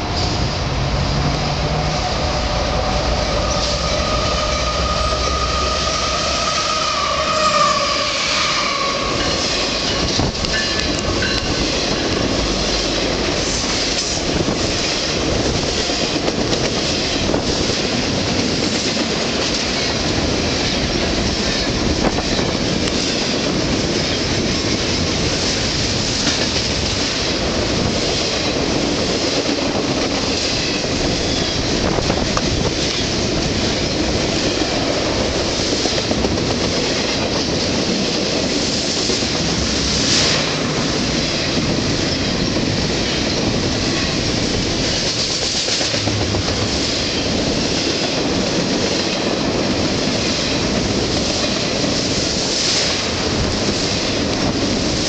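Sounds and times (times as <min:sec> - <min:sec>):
locomotive engine hum and whine: 0:00.0 - 0:55.0
train wheels rumbling: 0:00.0 - 0:55.0
clickety-clack over rail joints: 0:01.8 - 0:55.0.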